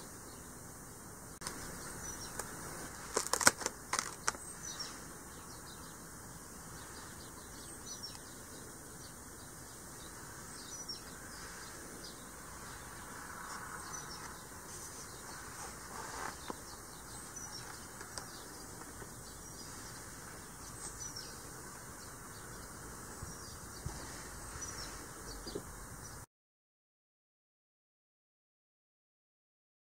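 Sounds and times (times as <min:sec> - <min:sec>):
small birds chirping: 0:00.0 - 0:26.3.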